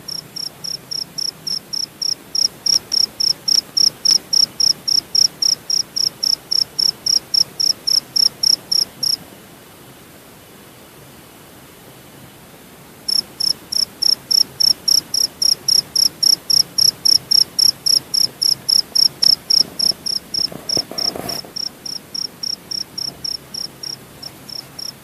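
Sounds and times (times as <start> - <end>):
cricket chirping: 0.0 - 9.2, 13.1 - 25.0.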